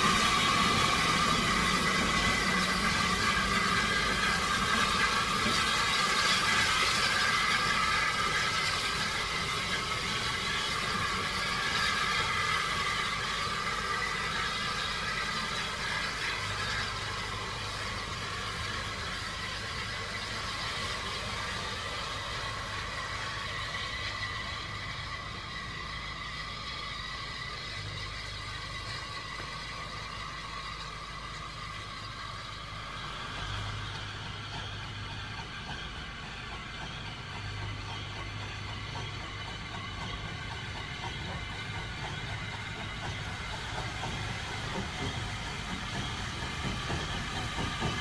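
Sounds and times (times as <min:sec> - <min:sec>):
steam locomotive hissing and rumbling: 0:00.0 - 0:48.0.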